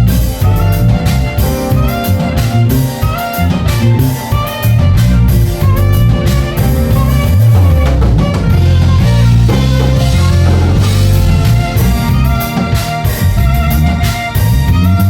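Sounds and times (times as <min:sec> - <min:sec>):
drum kit: 0:00.0 - 0:15.0
heavy bass: 0:00.0 - 0:15.0
saxophone melody: 0:00.0 - 0:15.0.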